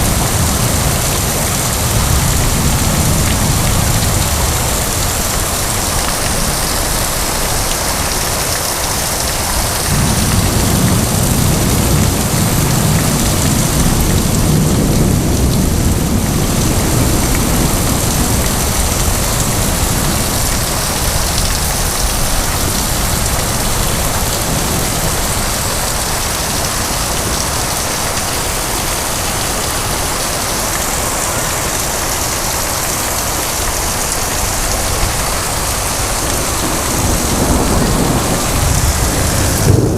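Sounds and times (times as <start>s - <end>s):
low rumble of thunder: 0.0s - 7.6s, 9.6s - 28.6s, 34.4s - 39.9s
heavy rain pouring: 0.0s - 39.9s.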